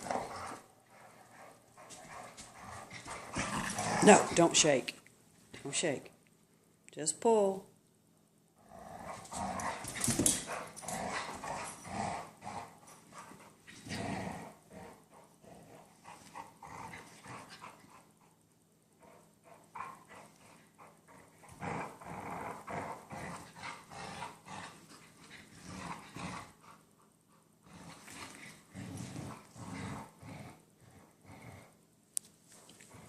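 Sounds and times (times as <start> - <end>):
dogs growling in play: 0.0 - 4.6, 8.6 - 31.9, 32.5 - 33.0.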